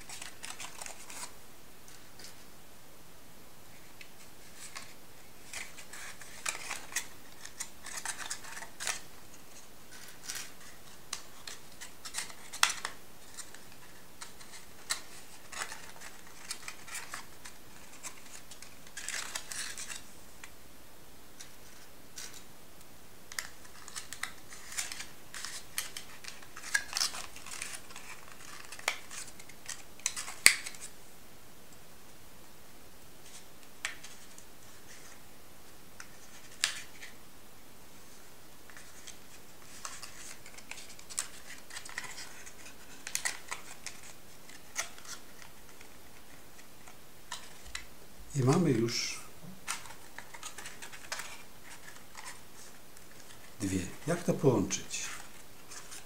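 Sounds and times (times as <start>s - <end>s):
paper being folded and crinkled: 0.0s - 2.4s, 3.7s - 20.5s, 23.3s - 31.0s, 36.0s - 37.2s, 38.1s - 56.0s.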